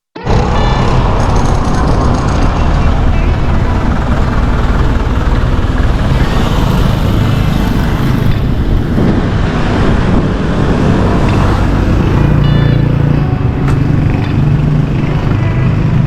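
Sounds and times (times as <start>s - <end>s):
wind buffeting microphone: 0.2s - 16.0s.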